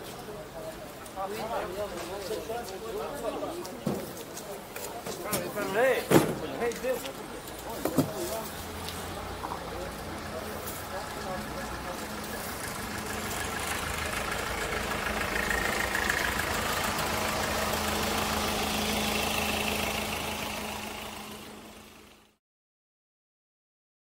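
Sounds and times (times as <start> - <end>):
street noise: 0.0 - 22.4
vehicle engine humming: 0.0 - 22.4.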